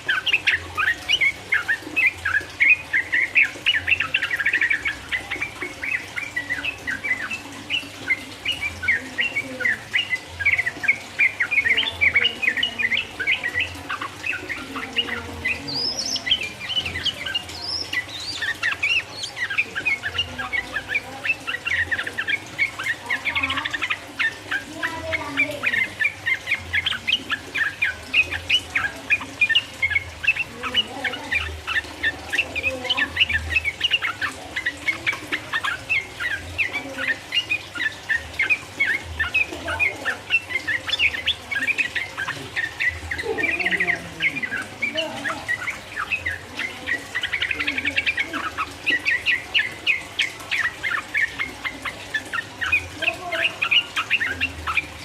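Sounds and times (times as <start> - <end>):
bulbul singing bubbly chirps: 0.0 - 55.0
faint low bird calls: 0.0 - 55.0.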